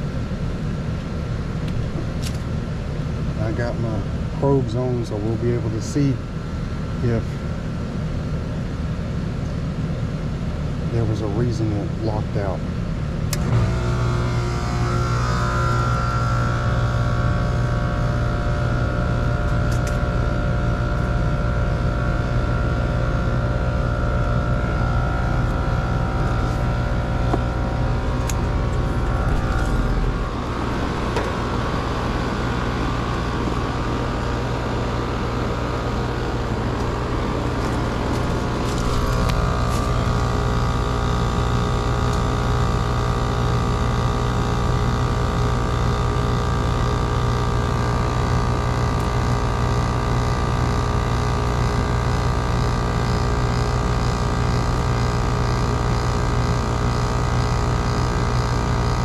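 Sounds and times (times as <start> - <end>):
heat pump humming: 0.0 - 59.0.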